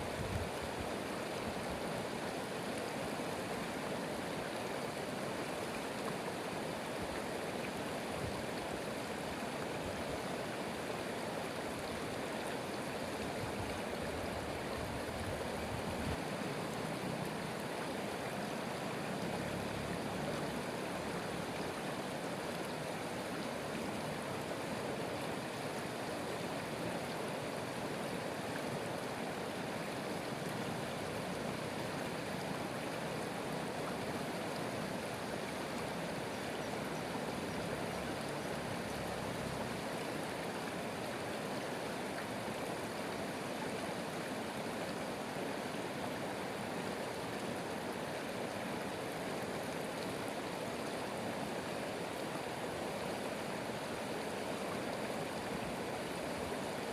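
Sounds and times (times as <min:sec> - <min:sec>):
stream water running: 0:00.0 - 0:56.9.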